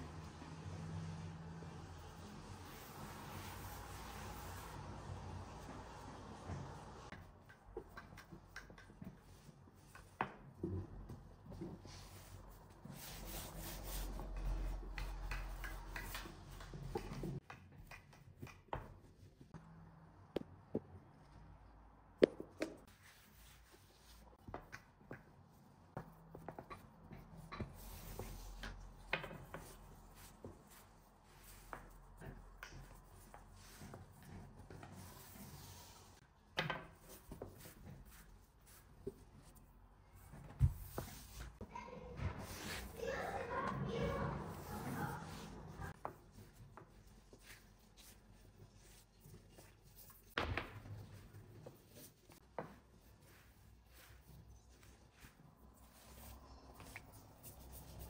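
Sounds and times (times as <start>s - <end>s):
rolling pin rolling dough: 0.0s - 19.2s, 22.4s - 39.6s, 40.2s - 58.0s.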